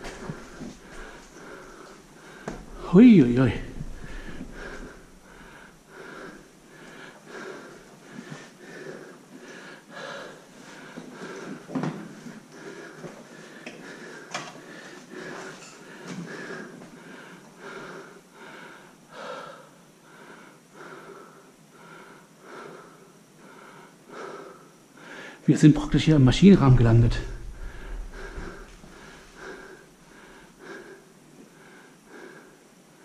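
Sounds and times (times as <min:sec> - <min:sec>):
person panting hard: 0:00.0 - 0:03.0, 0:03.6 - 0:25.4, 0:26.9 - 0:33.0.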